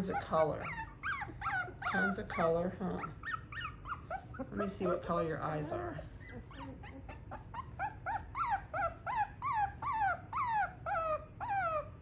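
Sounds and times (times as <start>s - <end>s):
puppy whimpering: 0.0s - 12.0s.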